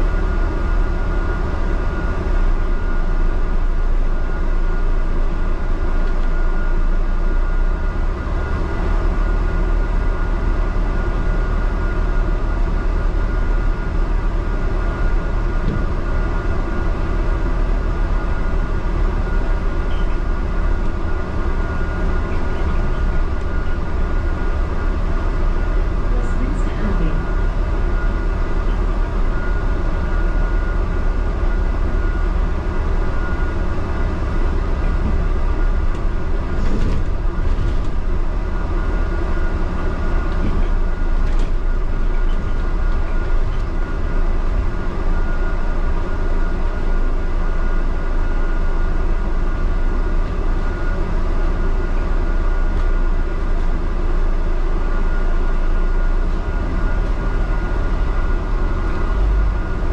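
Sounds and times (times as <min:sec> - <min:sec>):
bus engine rumble: 0:00.0 - 0:59.9
constant high whine: 0:00.0 - 0:59.9.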